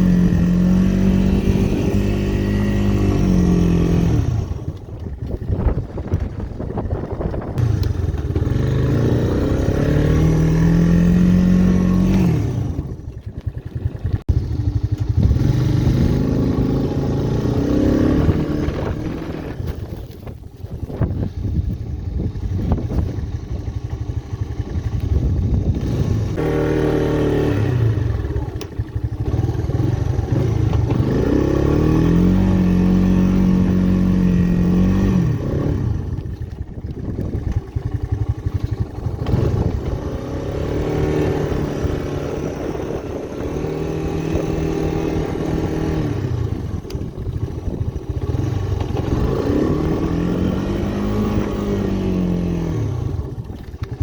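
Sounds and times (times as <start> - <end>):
three-wheeler engine revving: 0.0 - 54.0.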